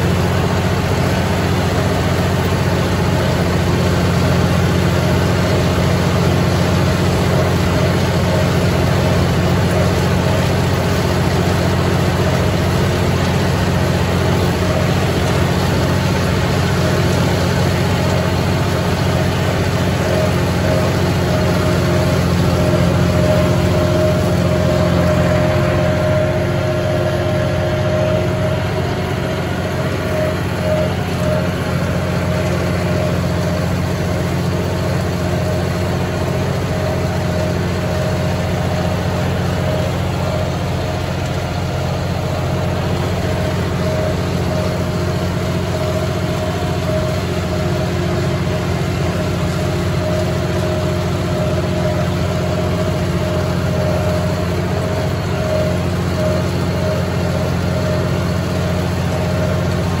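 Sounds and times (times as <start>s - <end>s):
high mechanical whine: 0.0s - 60.0s
tractor diesel engine running: 0.0s - 60.0s.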